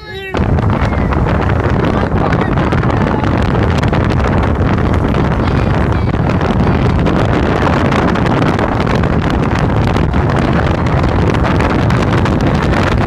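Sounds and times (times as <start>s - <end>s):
low rumble: 0.0s - 13.0s
wind rushing over microphone: 0.0s - 13.0s.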